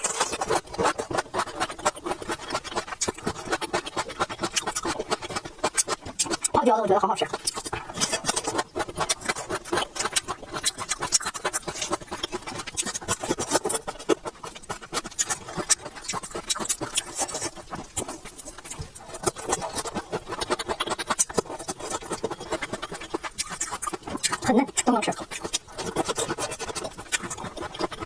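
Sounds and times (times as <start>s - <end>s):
chewing crispy food: 0.0s - 28.0s.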